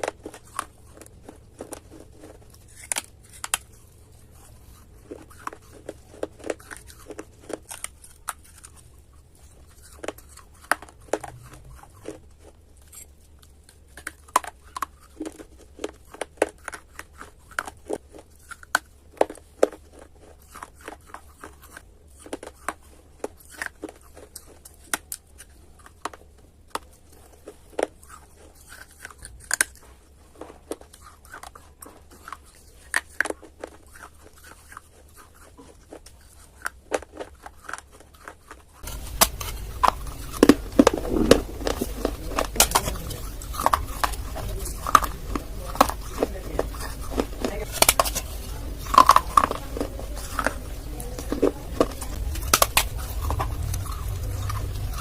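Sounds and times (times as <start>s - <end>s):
crunching chewing of baked clay: 0.0s - 55.0s.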